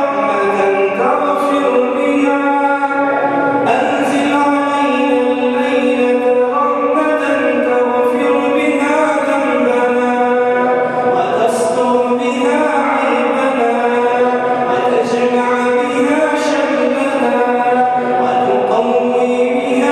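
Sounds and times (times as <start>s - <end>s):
man chanting into microphone: 0.0s - 19.9s.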